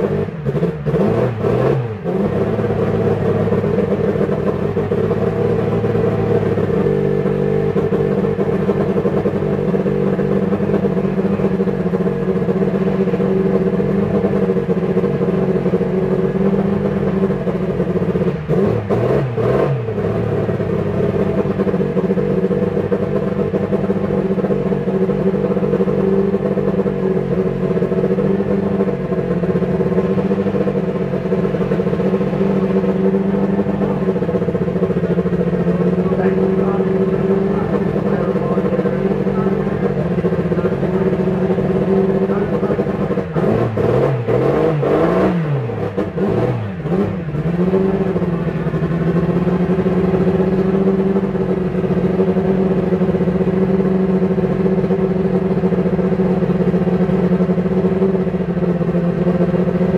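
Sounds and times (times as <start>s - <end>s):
racing car engine idling: 0.0s - 59.9s.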